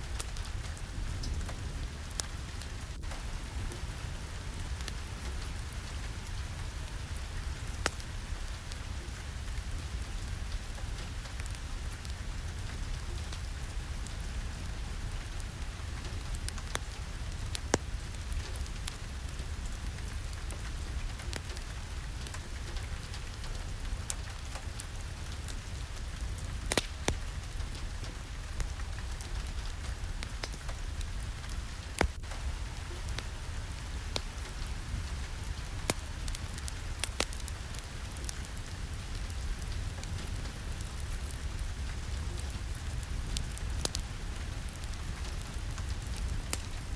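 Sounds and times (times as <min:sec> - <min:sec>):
steady rain: 0:00.0 - 0:46.9
wood fire crackling: 0:00.0 - 0:46.9.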